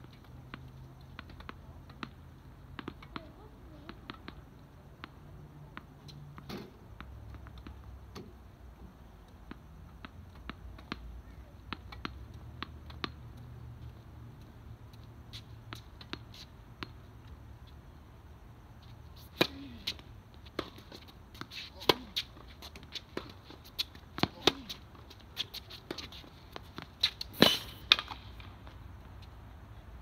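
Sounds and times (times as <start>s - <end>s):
tennis balls struck and bouncing: 0.0s - 17.4s, 19.0s - 29.1s.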